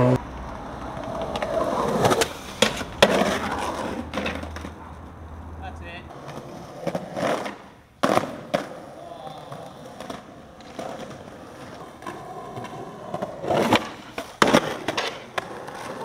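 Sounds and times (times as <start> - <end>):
skateboard wheels rolling: 0.0 - 16.0
skateboard clacking: 0.1 - 5.1, 6.1 - 16.0.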